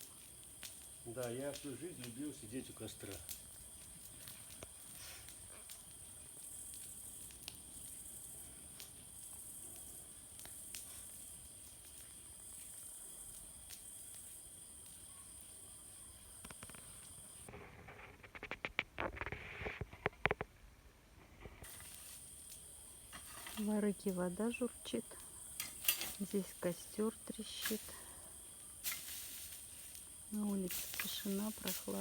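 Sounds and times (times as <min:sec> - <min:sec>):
night insects hissing: 0:00.0 - 0:18.1, 0:21.4 - 0:32.0
campfire crackling and popping: 0:00.0 - 0:20.6, 0:21.3 - 0:32.0.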